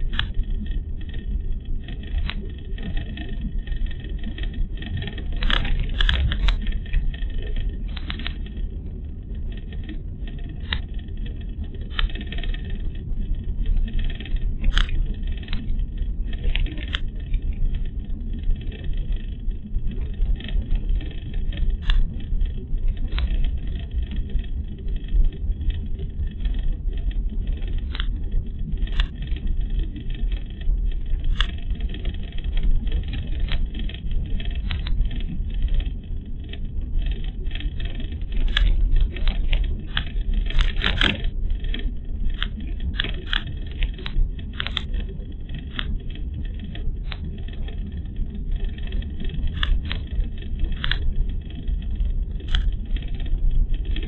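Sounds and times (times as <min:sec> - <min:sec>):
car tyres and engine rumble: 0:00.0 - 0:54.0
light clicks and rattles: 0:00.0 - 0:54.0.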